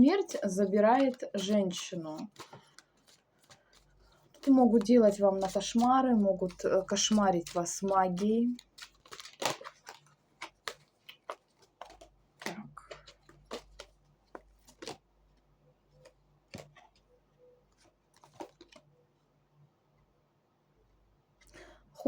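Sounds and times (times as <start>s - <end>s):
cards being shuffled: 0.1s - 19.0s.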